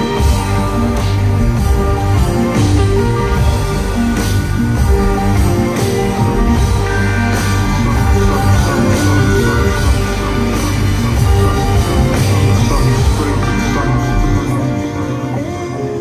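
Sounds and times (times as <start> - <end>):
heavy bass line: 0.0 - 16.0
held keyboard chords: 0.0 - 16.0.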